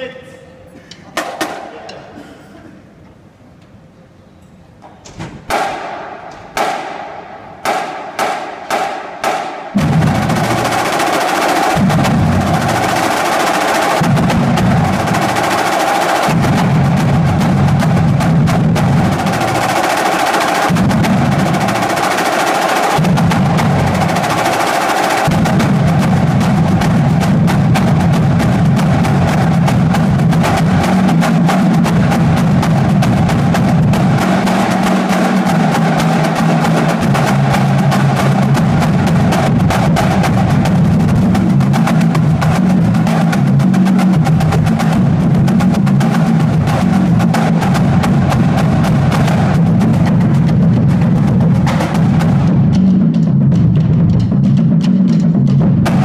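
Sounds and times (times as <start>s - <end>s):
snare drumline drumming with rolls: 1.2s - 1.8s, 5.5s - 56.0s.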